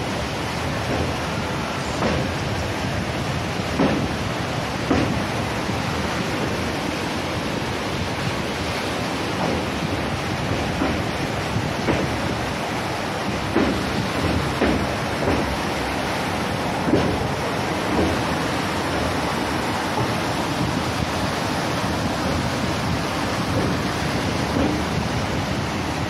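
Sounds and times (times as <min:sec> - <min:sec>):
rough sea breaking: 0:00.0 - 0:26.0
wind buffeting microphone: 0:00.0 - 0:26.0.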